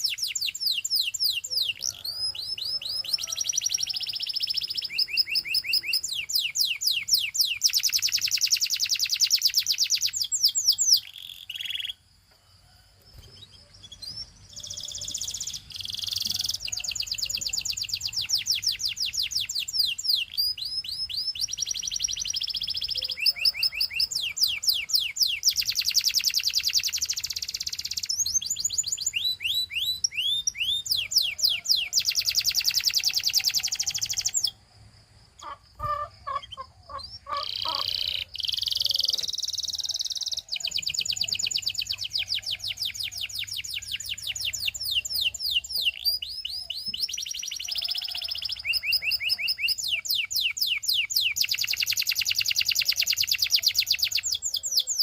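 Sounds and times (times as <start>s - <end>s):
canary singing trills: 0.0s - 12.1s, 13.1s - 34.6s, 35.3s - 55.0s.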